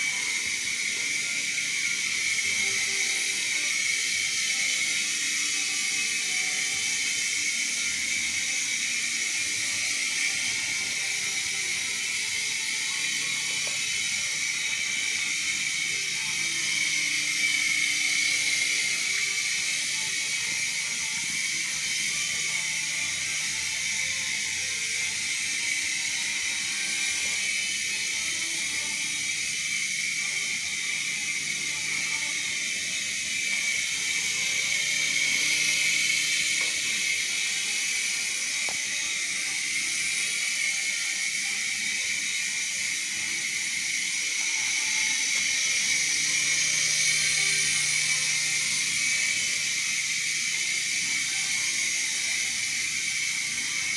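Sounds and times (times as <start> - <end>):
toy helicopter motor whine: 0.0 - 53.9.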